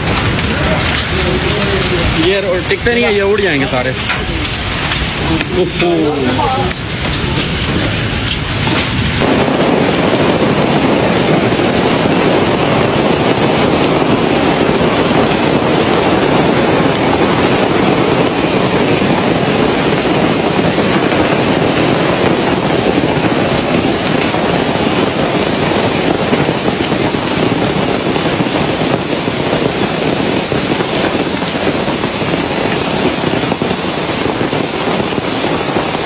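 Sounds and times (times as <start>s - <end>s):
hail pelting down: 0.0s - 36.0s.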